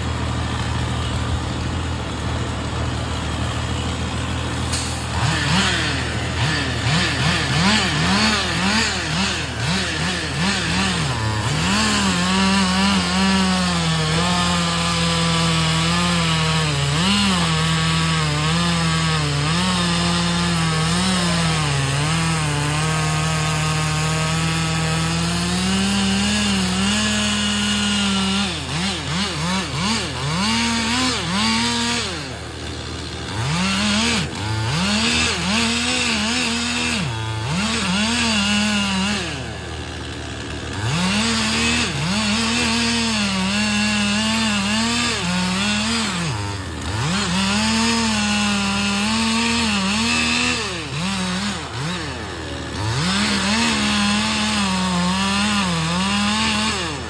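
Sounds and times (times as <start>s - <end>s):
chainsaw cutting and revving: 0.0s - 57.0s.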